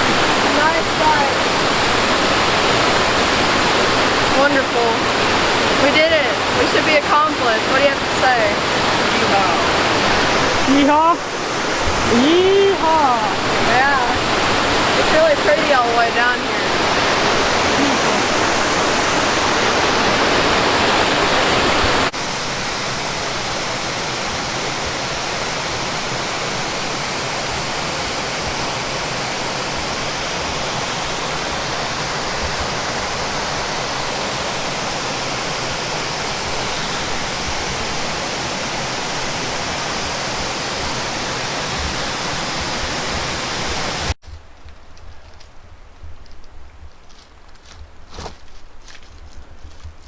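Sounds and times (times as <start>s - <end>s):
waterfall rushing: 0.0s - 44.2s.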